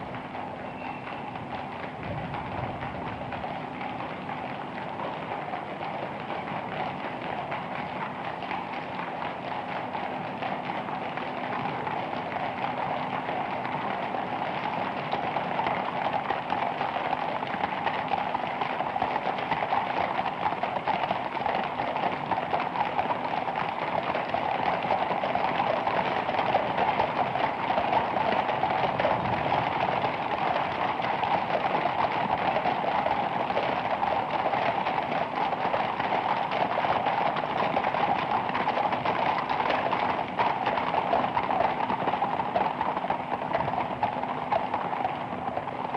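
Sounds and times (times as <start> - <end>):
horse hooves clip-clopping: 0.0 - 45.9.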